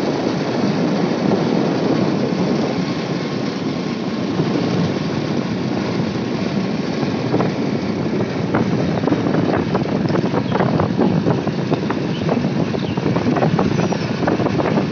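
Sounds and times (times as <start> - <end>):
motorcycle engine and road noise: 0.0 - 14.9.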